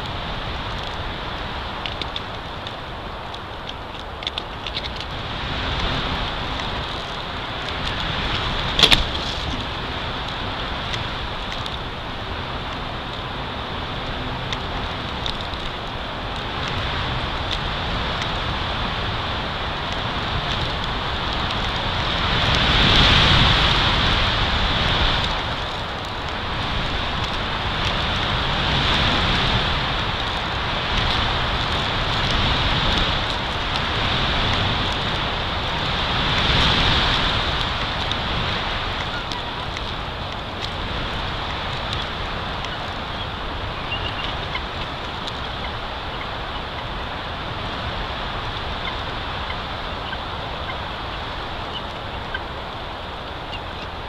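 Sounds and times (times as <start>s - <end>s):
wind buffeting microphone: 0.0s - 54.0s
wind rushing through pines: 0.0s - 54.0s.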